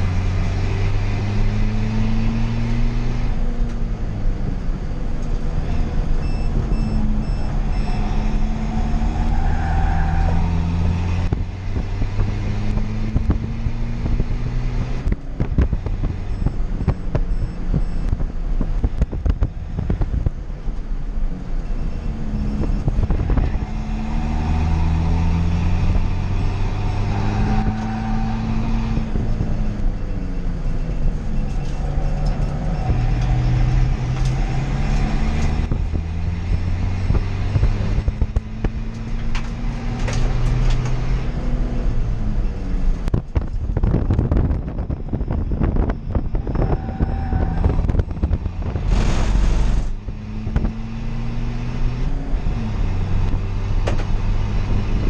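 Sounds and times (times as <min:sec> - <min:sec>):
car engine revving through gears: 0:00.0 - 0:55.0
road and tyre noise: 0:00.0 - 0:55.0.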